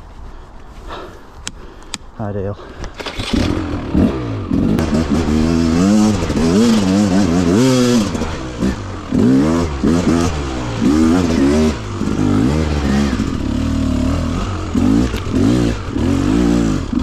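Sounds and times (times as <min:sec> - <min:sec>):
two-stroke engine revving: 0:02.9 - 0:17.0.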